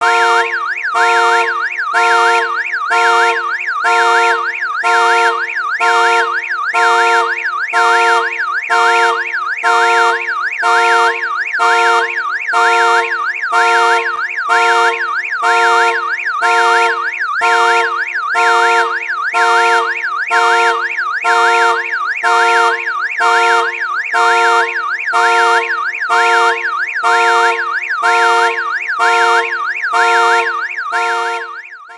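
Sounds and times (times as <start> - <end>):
car alarm siren warbling: 0.0 - 31.9.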